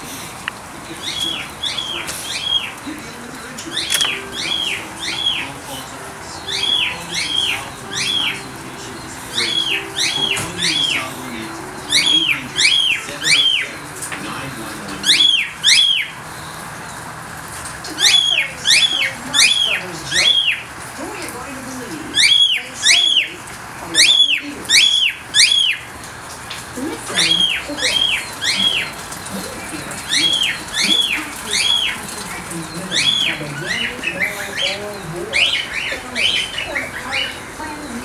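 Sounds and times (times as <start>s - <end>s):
rain hiss: 0.0s - 22.1s, 22.7s - 38.0s
cockatiels whistling calls: 0.9s - 14.2s, 14.9s - 16.2s, 18.0s - 20.7s, 22.1s - 25.9s, 27.1s - 38.0s.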